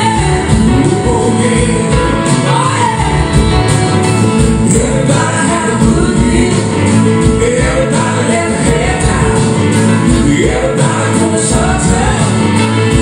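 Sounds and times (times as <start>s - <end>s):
drums: 0.0s - 13.0s
electric guitars: 0.0s - 13.0s
horn section: 0.0s - 13.0s
person singing: 0.0s - 13.0s.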